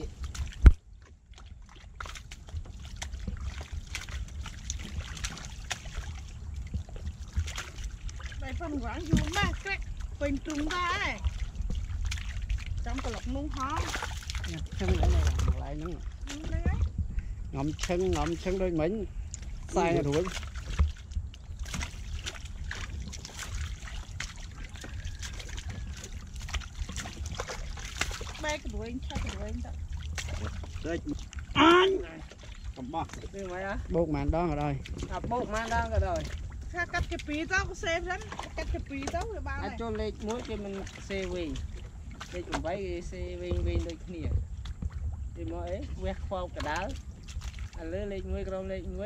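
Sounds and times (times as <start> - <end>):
low rumble: 0.0 - 49.0
water sloshing and dripping: 0.0 - 49.0.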